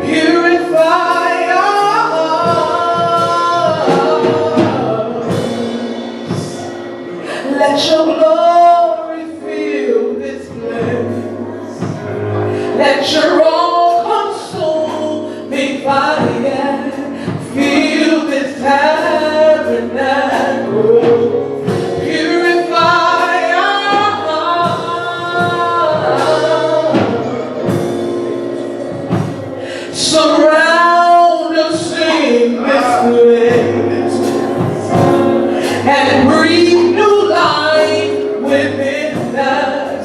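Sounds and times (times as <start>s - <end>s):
man and woman singing gospel: 0.0s - 40.0s
sustained instrumental accompaniment: 0.0s - 40.0s.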